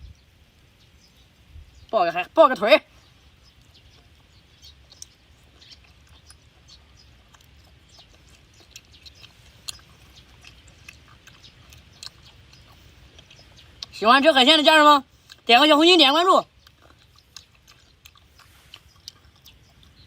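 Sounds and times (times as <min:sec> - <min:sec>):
wet chewing and mouth clicks: 0:02.9 - 0:20.0.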